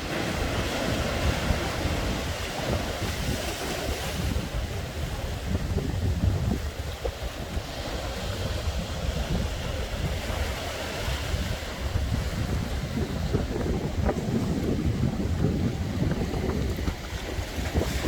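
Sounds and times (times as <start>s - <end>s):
waves washing on shore: 0.0s - 18.0s
wind buffeting microphone: 0.0s - 18.0s.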